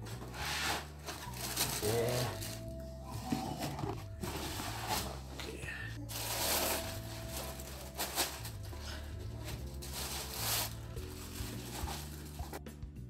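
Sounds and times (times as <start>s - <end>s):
soft background music with bass: 0.0s - 13.0s
plastic wrapping crinkling: 0.8s - 5.3s, 6.0s - 12.6s.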